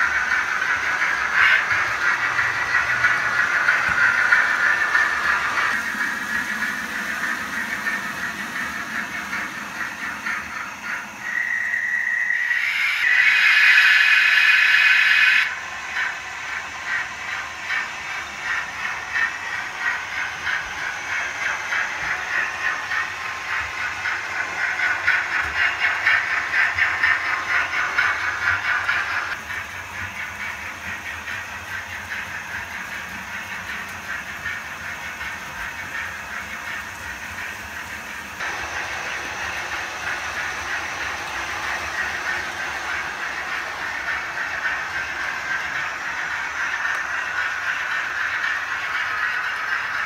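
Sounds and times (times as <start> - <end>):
wheels clicking over track: 0.0 - 13.2, 15.2 - 50.0
model train motor whirr: 0.0 - 50.0.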